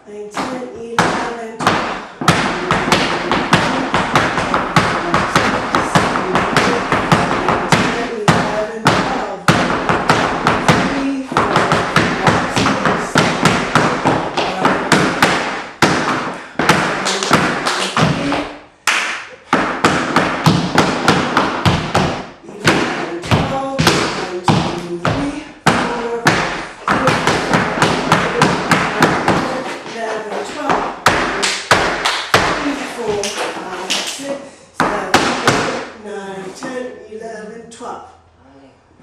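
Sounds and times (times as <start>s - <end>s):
dance shoes stamping on wooden floor: 0.4s - 36.8s.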